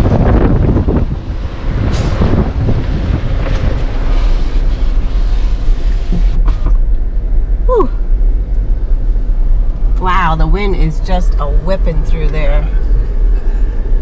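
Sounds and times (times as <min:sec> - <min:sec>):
vehicle driving on rough trail: 0:00.0 - 0:14.0
wind buffeting microphone: 0:00.0 - 0:14.0.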